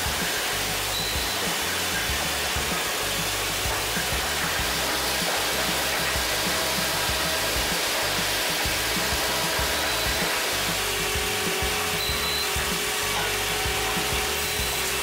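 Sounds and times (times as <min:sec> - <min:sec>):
wood machine rushing noise: 0:00.0 - 0:15.0.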